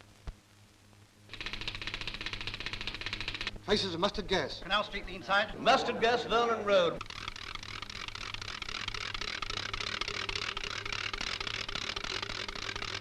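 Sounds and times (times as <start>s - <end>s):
film soundtrack hiss and crackle: 0.0s - 13.0s
low mains hum: 0.0s - 13.0s.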